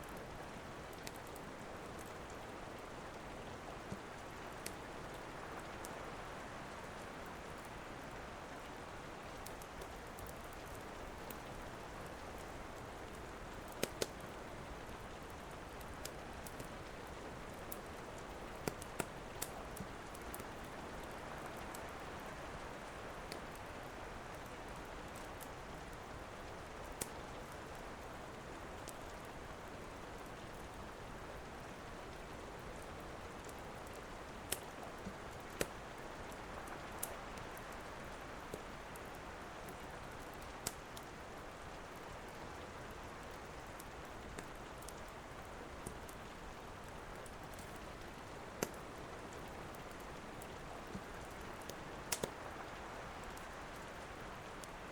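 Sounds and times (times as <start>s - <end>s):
wood fire crackling: 0.0s - 6.0s, 6.8s - 54.9s
steady rain: 0.0s - 54.9s.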